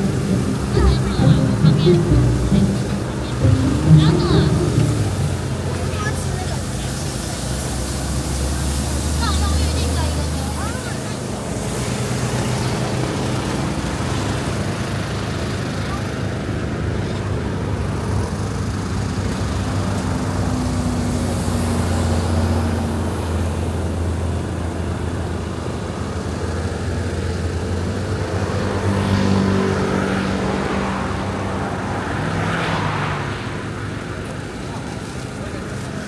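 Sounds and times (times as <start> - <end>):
engine hum: 0.0 - 36.0
vehicles passing: 0.0 - 36.0.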